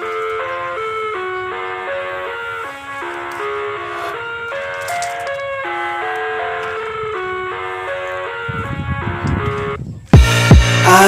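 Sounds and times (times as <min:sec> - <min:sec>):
simple melody of held notes: 0:00.0 - 0:11.0.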